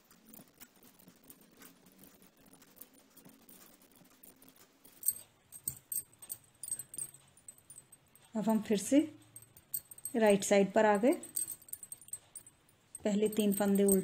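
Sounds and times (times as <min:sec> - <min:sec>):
knitting needles clicking: 0:00.0 - 0:14.0.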